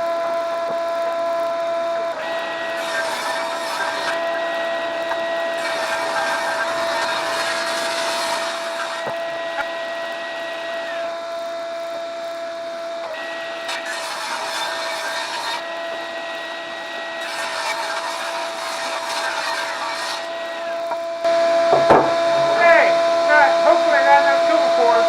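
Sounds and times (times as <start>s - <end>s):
power tool motor running: 0.0s - 25.0s.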